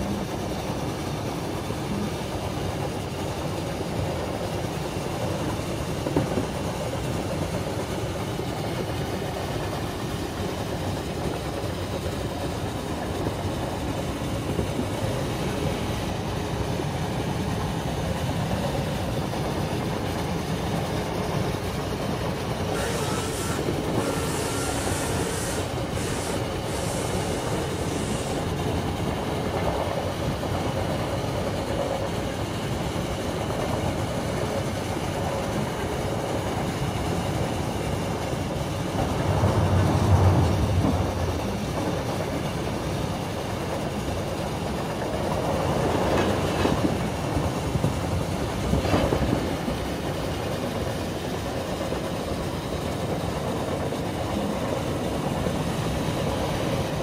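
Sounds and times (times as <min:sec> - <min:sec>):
train rumble and rattle: 0:00.0 - 0:57.0.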